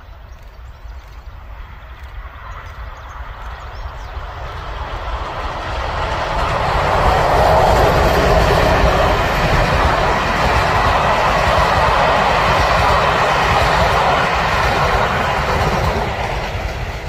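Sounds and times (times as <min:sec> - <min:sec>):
diesel locomotive engines: 0:00.0 - 0:17.0
train coaches rolling on rails: 0:00.0 - 0:17.0.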